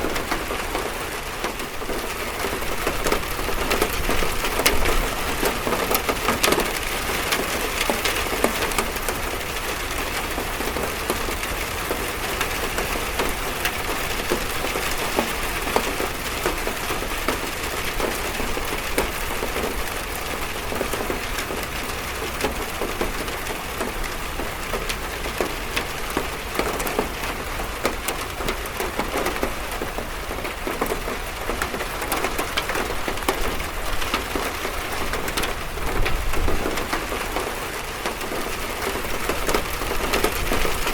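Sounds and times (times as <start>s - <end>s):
rain drumming on a metal roof: 0.0s - 40.9s.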